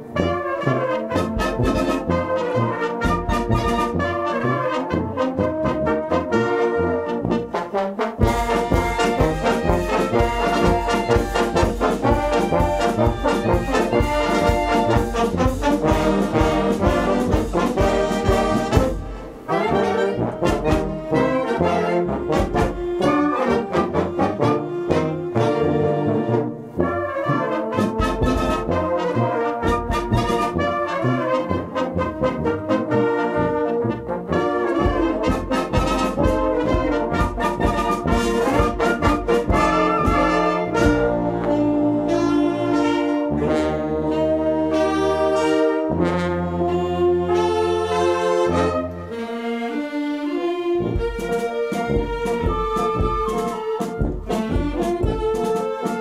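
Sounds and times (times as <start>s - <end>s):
trombones and trumpets: 0.0s - 56.0s
wind band playing: 0.0s - 56.0s.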